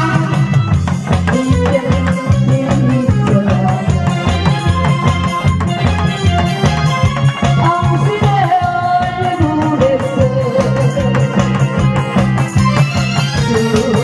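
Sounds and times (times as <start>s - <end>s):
fast drum beat: 0.0s - 14.0s
sliding melody line: 0.0s - 14.0s
upbeat trot music: 0.0s - 14.0s.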